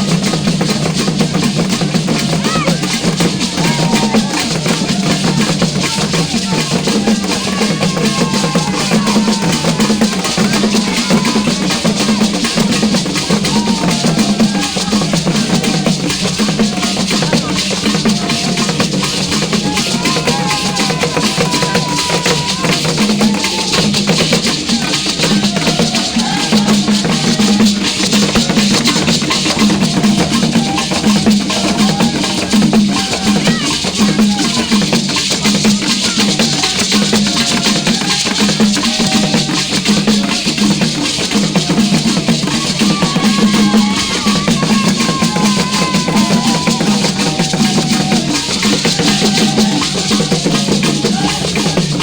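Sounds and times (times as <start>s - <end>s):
drum percussion music: 0.0s - 52.0s
shakers rattling: 0.0s - 52.0s.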